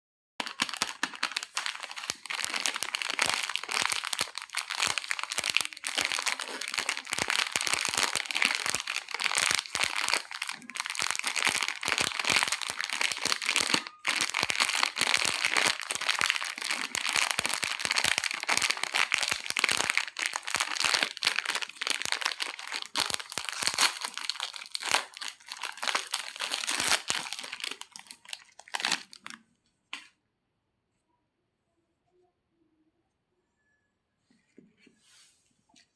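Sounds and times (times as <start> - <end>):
crunching and crinkling: 0.4 - 29.4.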